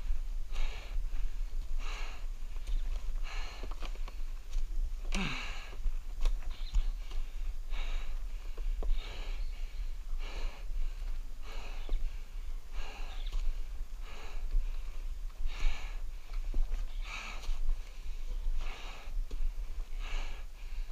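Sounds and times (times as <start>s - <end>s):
person breathing heavily: 0.0s - 6.1s, 6.8s - 20.9s.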